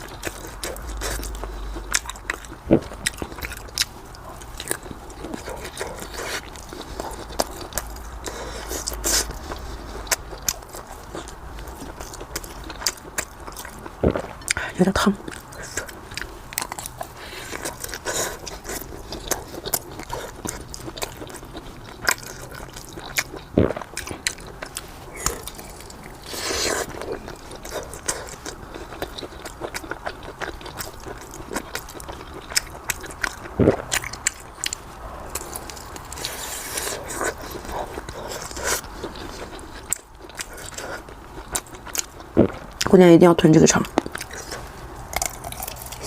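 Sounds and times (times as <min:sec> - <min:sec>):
person chewing food: 0:00.0 - 0:42.9, 0:43.8 - 0:46.0.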